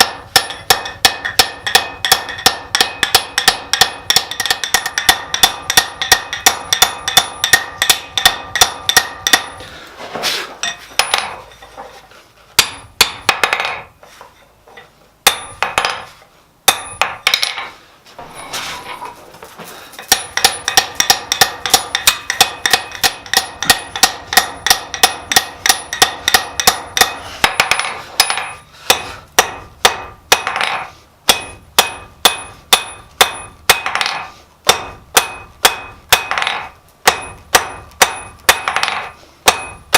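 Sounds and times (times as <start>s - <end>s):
hammer striking steel on anvil: 0.0s - 9.7s, 10.6s - 11.8s, 12.6s - 13.9s, 14.7s - 16.1s, 16.7s - 17.7s, 20.0s - 39.9s.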